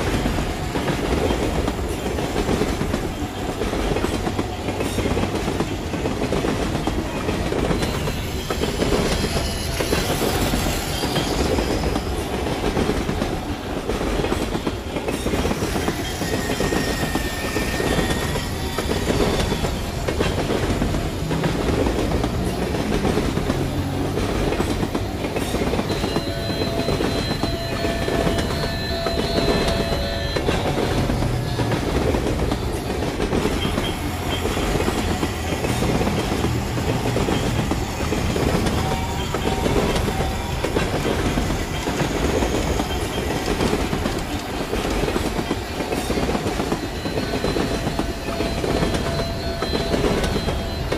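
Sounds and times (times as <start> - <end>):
wheels clicking over track joints: 0.0 - 50.9.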